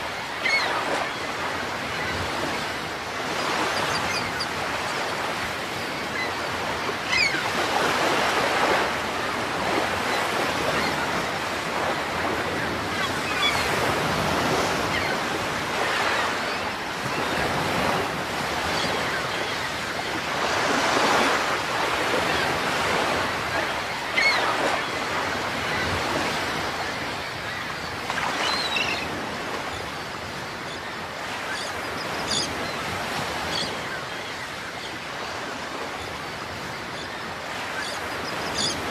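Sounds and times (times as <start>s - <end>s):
ocean waves surging: 0.0s - 38.9s.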